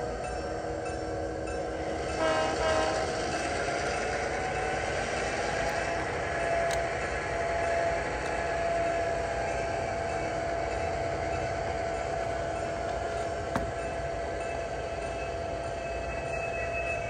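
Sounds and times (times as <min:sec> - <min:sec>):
model train hum and whine: 0:00.0 - 0:17.0.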